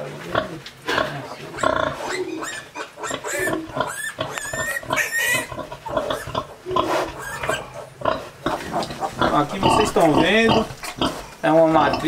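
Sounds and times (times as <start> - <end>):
piglets grunting: 0.0 - 12.0
piglets squealing: 1.1 - 11.2.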